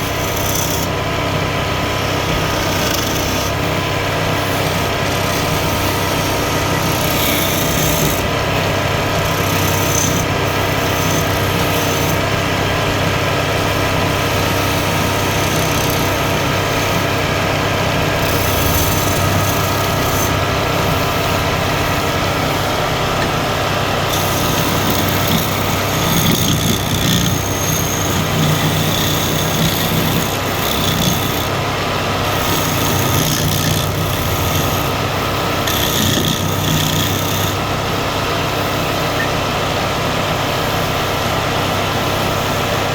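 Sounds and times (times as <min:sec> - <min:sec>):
tool cutting spinning wood: 0:00.0 - 0:42.9
wood lathe motor hum: 0:00.0 - 0:42.9.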